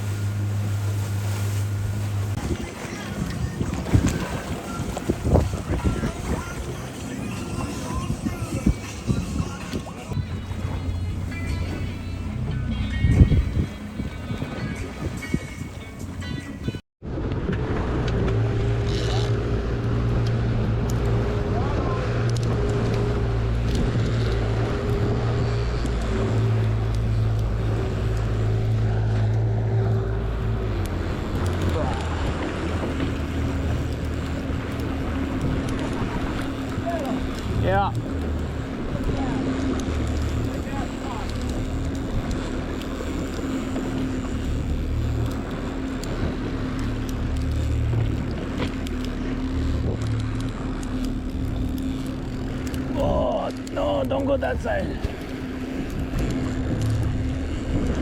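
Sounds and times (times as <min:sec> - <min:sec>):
boat engine droning: 0:00.0 - 0:58.0
higher engine hum: 0:00.0 - 0:58.0
water noise: 0:00.0 - 0:58.0
wind: 0:00.0 - 0:58.0.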